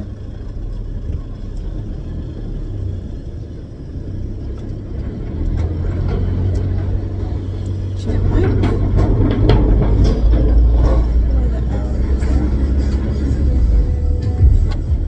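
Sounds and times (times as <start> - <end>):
car engine driving off: 0.0 - 15.0
road rumble: 0.0 - 15.0.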